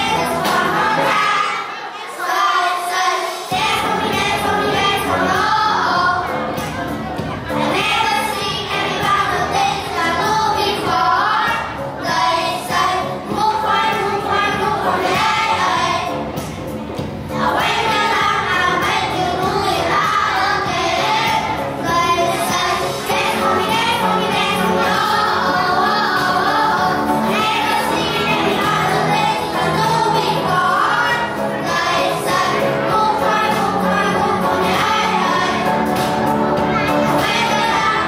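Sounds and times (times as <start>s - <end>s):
backing music track: 0.0s - 38.0s
children singing into microphones: 0.0s - 38.0s.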